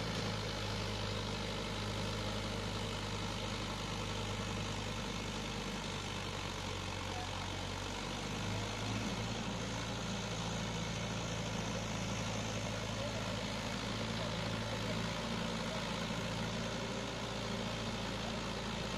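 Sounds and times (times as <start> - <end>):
tractor engine under load: 0.0 - 18.9.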